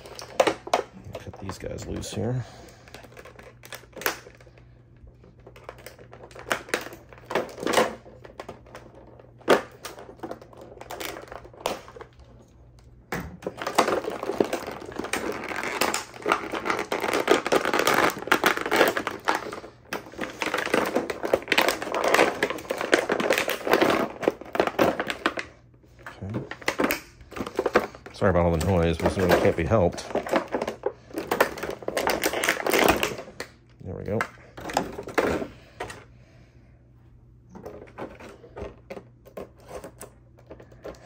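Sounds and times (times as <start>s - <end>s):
plastic packaging crackling: 0.0s - 12.8s, 13.4s - 25.6s, 26.2s - 35.9s.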